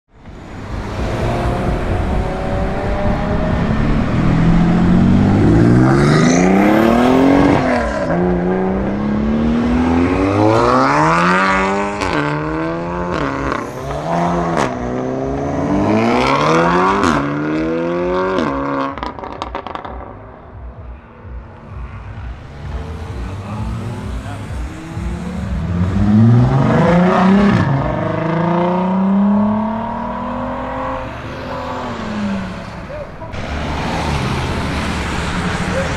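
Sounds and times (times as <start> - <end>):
sports car engine accelerating: 0.3 - 20.5, 21.2 - 35.9.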